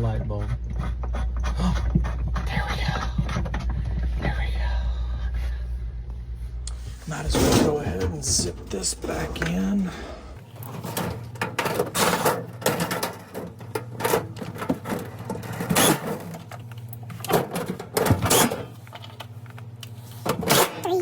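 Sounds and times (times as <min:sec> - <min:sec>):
steady low hum: 0:00.0 - 0:20.3.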